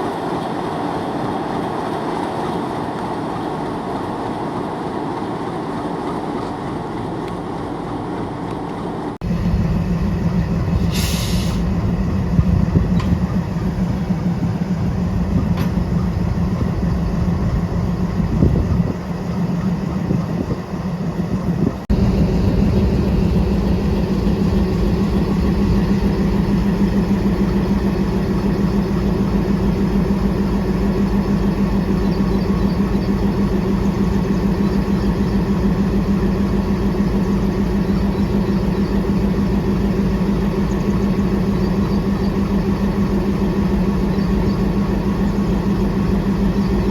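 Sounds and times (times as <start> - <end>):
diesel locomotives idling: 0.0 - 46.9.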